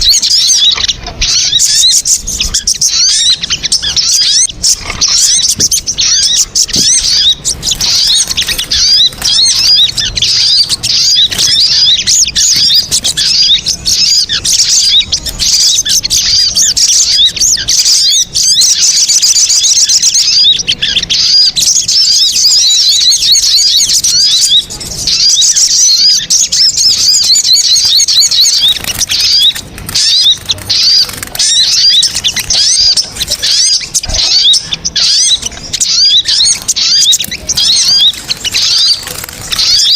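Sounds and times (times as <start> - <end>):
bird chirping and trills: 0.0 - 39.9.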